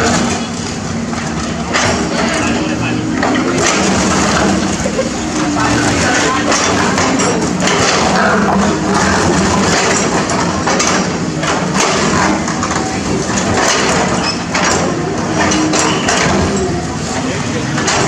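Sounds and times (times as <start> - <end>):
excavator diesel engine under load: 0.0 - 18.0.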